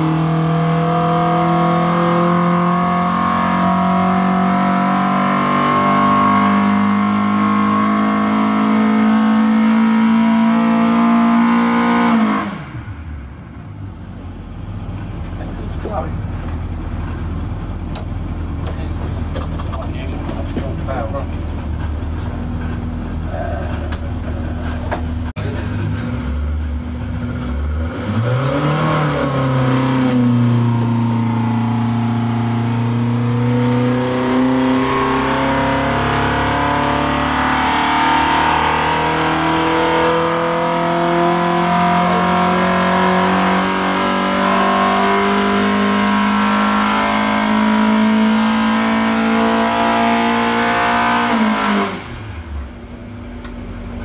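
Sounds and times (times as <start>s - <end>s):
car engine revving on a dyno: 0.0s - 13.1s, 22.6s - 52.9s.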